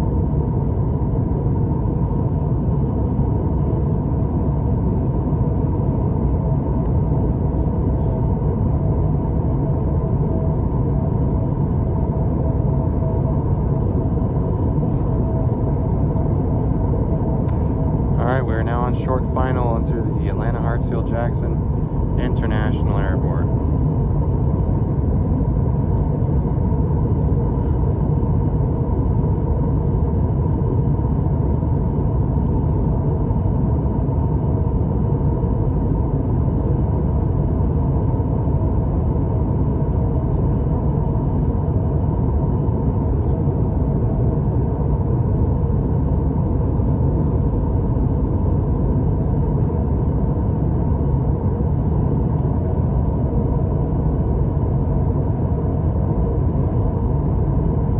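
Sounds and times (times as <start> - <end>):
airliner cabin low rumble: 0.0 - 57.9.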